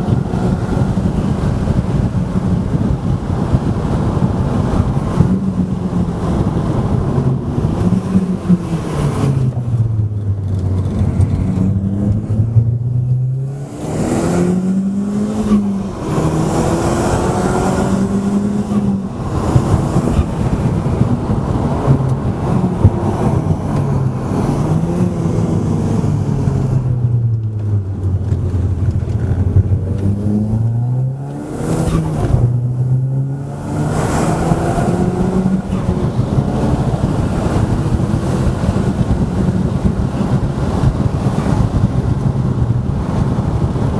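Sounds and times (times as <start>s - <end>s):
car engine revving through gears: 0.0s - 43.9s.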